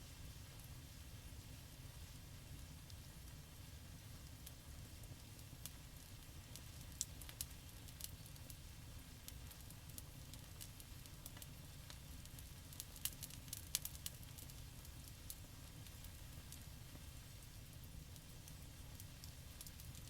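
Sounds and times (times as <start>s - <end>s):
low steady fire rumble: 0.0s - 20.0s
campfire crackling and popping: 2.5s - 20.0s.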